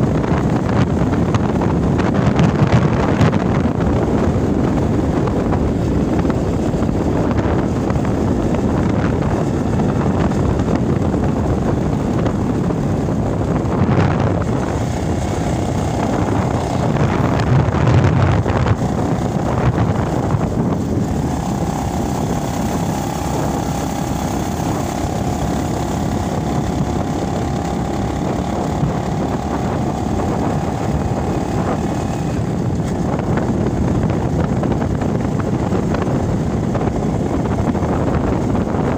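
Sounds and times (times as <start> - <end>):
moving vehicle running: 0.0 - 38.9
wind buffeting microphone: 0.0 - 38.9.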